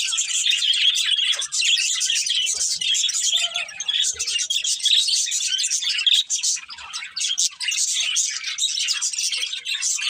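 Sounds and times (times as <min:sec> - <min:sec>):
budgerigars chirping and chattering: 0:00.0 - 0:10.0.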